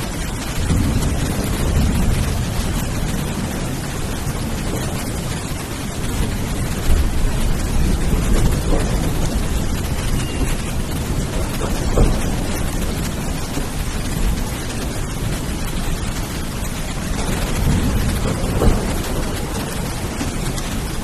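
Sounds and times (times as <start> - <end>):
low rumble of thunder: 0.0 - 21.0
rain downpour: 0.0 - 21.0.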